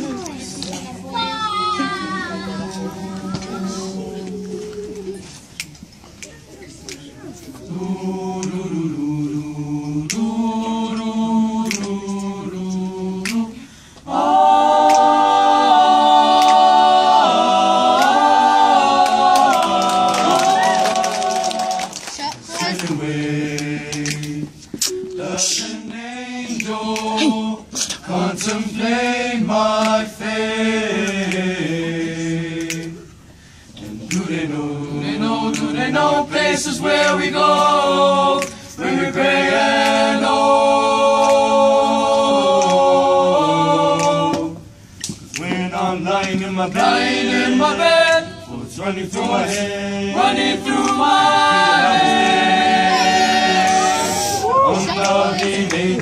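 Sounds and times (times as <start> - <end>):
male vocal group singing a cappella: 7.6 - 56.0.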